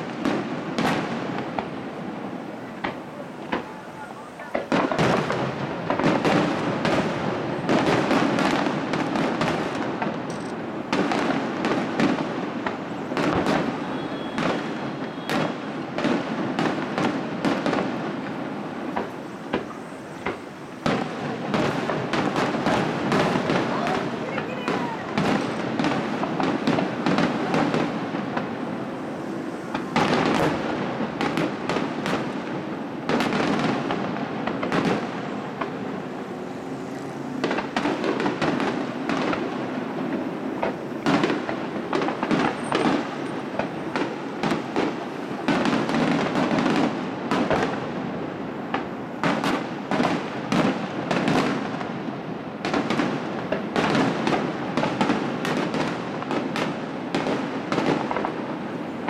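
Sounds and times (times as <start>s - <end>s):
firework shells bursting: 0.1s - 48.0s.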